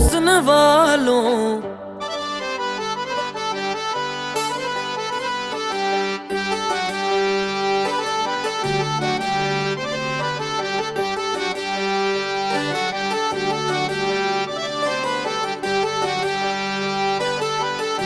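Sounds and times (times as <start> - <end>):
harmonium melody: 0.0 - 18.0.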